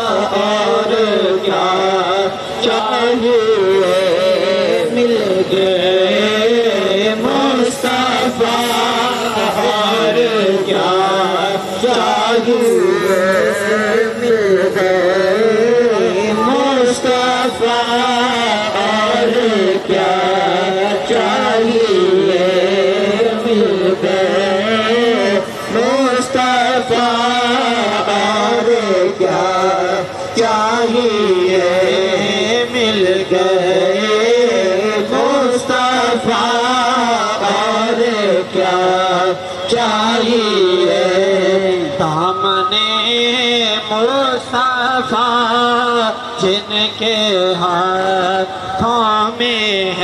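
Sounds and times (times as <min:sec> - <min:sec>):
man singing devotional hymn: 0:00.0 - 0:50.0.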